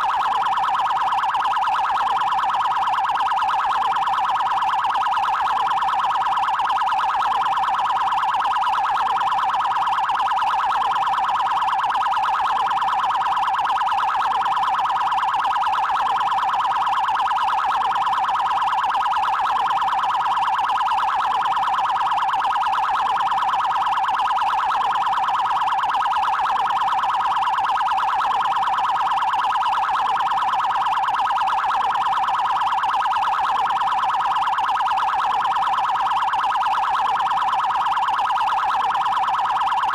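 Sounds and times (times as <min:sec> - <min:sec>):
police siren fast warble: 0:00.0 - 0:39.9.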